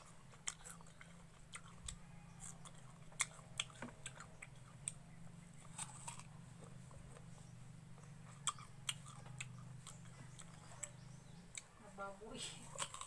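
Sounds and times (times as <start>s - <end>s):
person chewing crunchy fruit: 0.0s - 11.8s, 12.6s - 13.0s
low steady hum: 0.0s - 13.0s.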